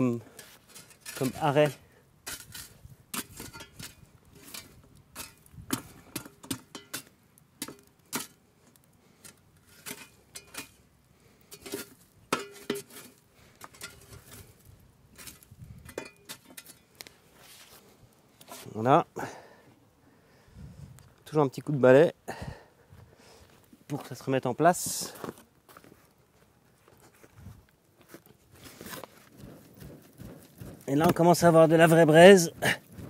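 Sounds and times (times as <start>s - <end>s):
metal shovel scraping embers: 0.0s - 19.6s, 20.3s - 25.8s, 28.1s - 33.0s.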